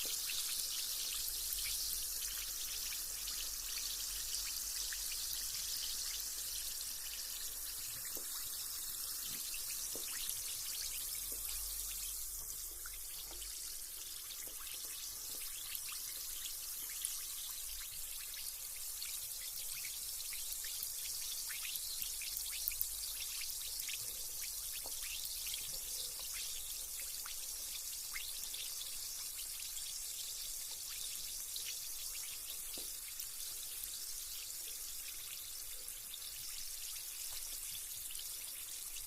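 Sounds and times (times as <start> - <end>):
bath bomb fizzing: 0.0 - 39.0.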